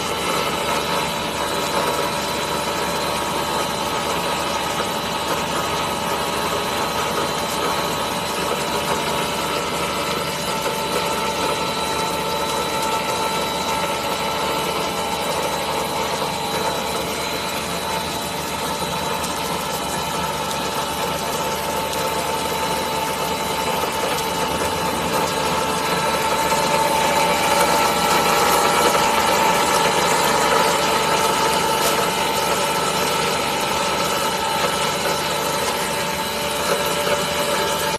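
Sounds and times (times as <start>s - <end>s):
machine hum: 0.0s - 37.9s.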